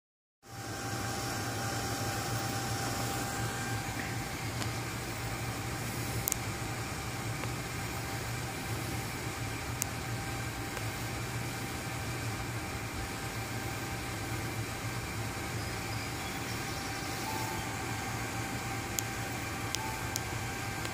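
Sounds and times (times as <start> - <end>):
computer fans whirring: 0.4 - 20.9.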